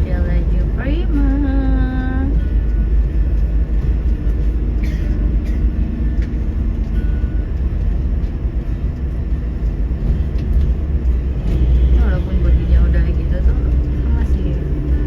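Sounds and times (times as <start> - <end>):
bus engine rumble: 0.0 - 15.0
road noise: 0.0 - 15.0.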